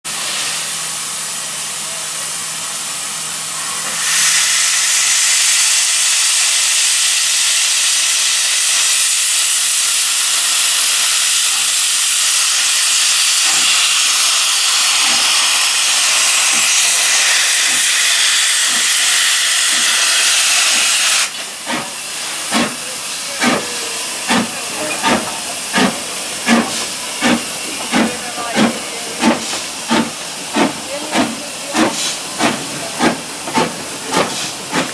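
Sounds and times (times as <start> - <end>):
steam hissing: 0.1 - 34.9
steam locomotive exhaust chuffing: 0.1 - 34.9.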